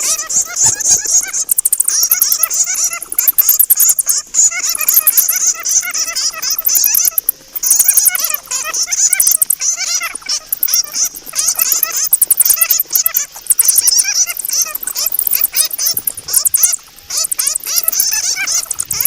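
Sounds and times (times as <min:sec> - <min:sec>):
bats squeaking and chattering: 0:00.0 - 0:19.0.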